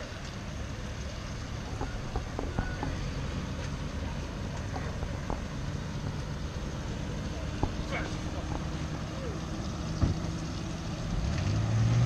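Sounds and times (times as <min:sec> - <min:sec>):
wheels rolling on asphalt: 0:00.0 - 0:12.0.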